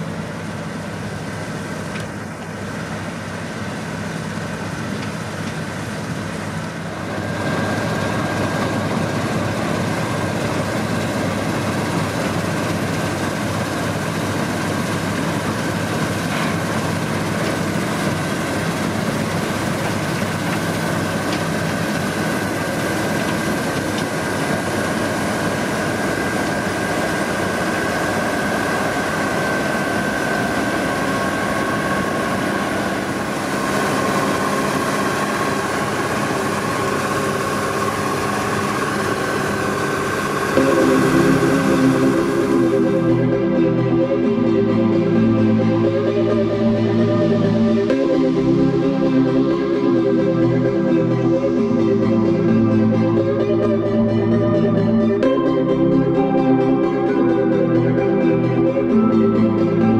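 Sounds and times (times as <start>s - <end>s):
combine harvester engine drone: 0.0s - 59.9s
high whine of threshing machinery: 0.0s - 59.9s
lower machinery whine: 0.0s - 59.9s.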